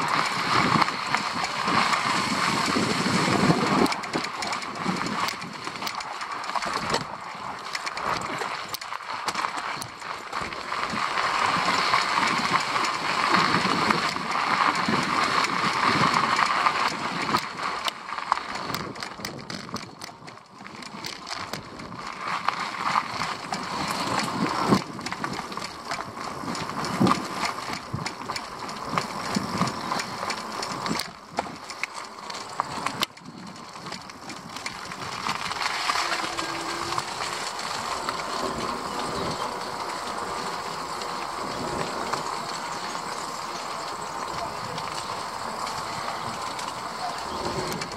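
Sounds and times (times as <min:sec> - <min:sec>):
vehicle rolling on rough path: 0:00.0 - 0:47.9.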